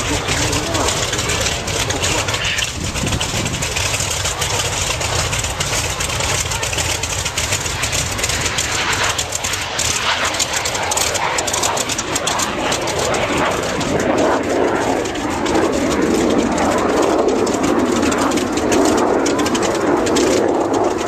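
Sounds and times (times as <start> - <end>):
aeroplane flying past: 0.0 - 21.0.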